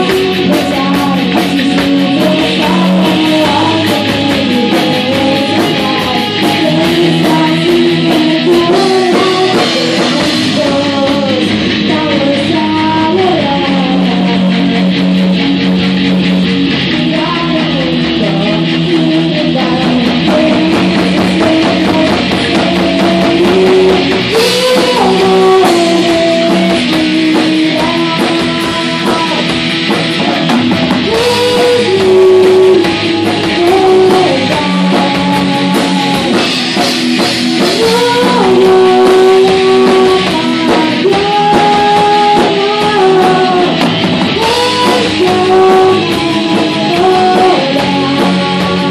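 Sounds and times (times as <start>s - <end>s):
bending guitar melody: 0.0s - 48.9s
rock band playing live: 0.0s - 48.9s.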